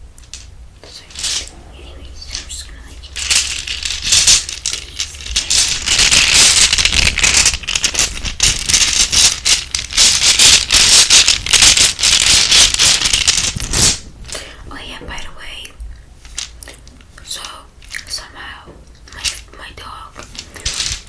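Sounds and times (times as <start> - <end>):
crackling rattle at microphone: 0.2 - 14.9, 16.2 - 21.0.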